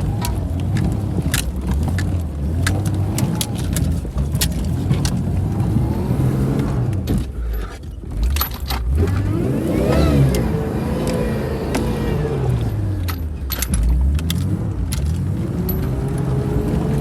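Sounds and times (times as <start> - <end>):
vehicle engine revving: 0.0 - 7.4, 8.1 - 17.0
metallic rattles and clicks: 0.0 - 17.0.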